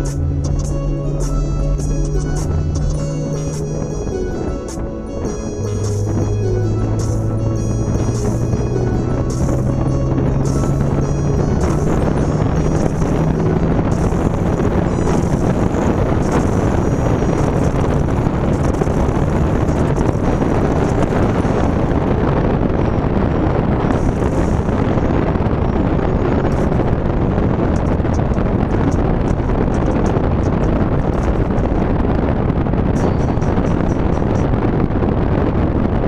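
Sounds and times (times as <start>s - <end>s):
wind rushing through car window: 0.0s - 36.0s.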